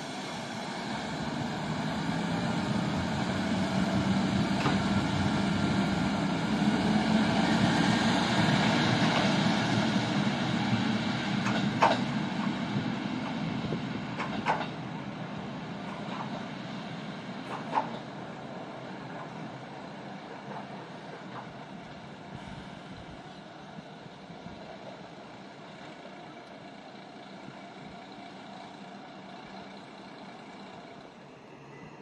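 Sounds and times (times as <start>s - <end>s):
diesel railcar engine drone: 0.0s - 32.0s.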